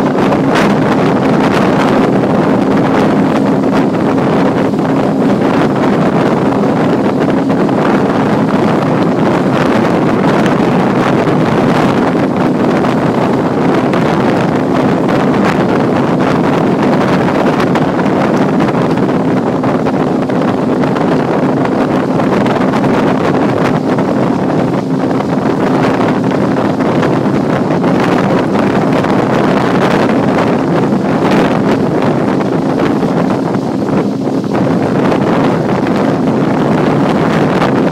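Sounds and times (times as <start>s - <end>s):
outboard motor droning: 0.0s - 37.9s
water rushing past hull: 0.0s - 37.9s
wind buffeting microphone: 0.0s - 37.9s.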